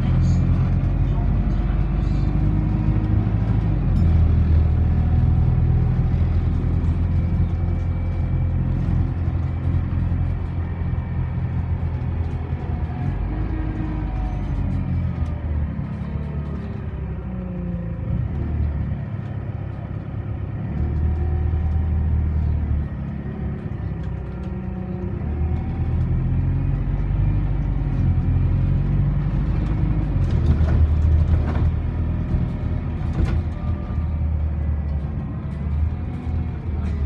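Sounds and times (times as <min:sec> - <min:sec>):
bus body rattles: 0:00.0 - 0:37.0
bus engine drone: 0:00.0 - 0:37.0.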